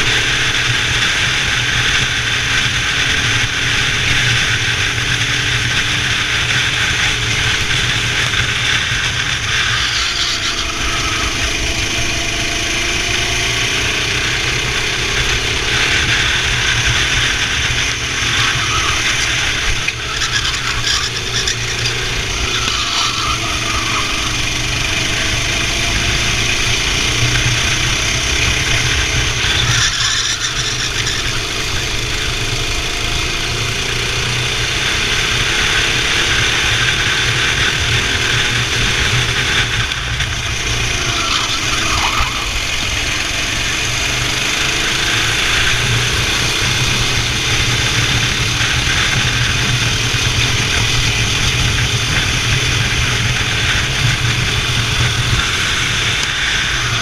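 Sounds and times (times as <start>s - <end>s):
kart engine running: 0.0s - 57.0s
steady rush of noise: 0.0s - 57.0s.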